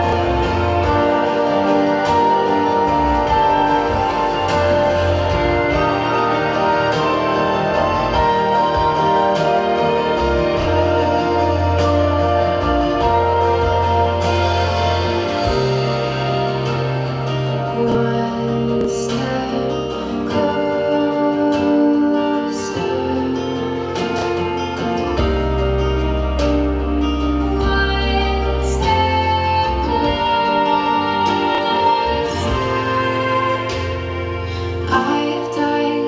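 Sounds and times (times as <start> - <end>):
slow waltz song over speakers: 0.0 - 36.0.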